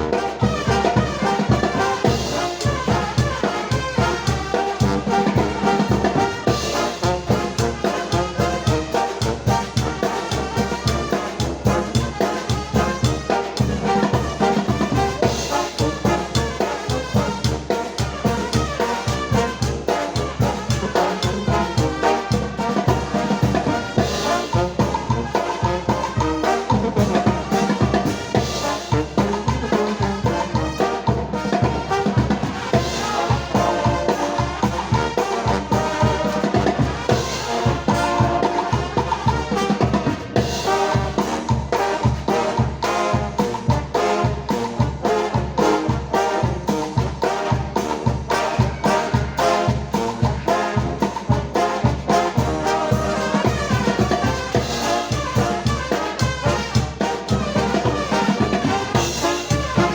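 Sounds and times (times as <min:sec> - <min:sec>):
brass band playing: 0:00.0 - 0:59.9.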